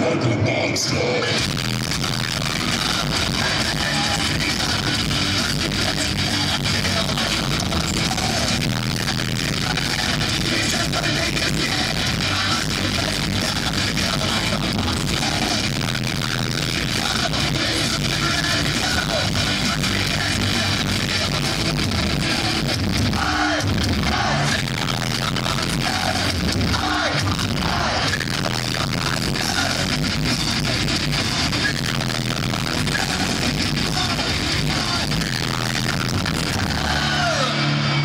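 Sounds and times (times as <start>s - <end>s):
live rock band playing: 1.3s - 38.0s.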